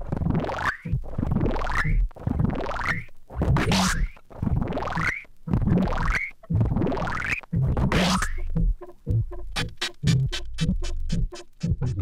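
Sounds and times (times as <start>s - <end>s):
experimental electronic music: 0.0s - 12.0s.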